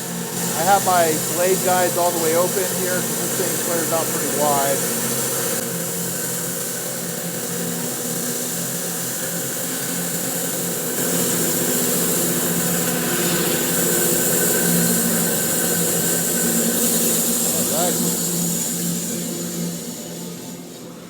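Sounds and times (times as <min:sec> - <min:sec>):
dust collector running: 0:00.0 - 0:21.0.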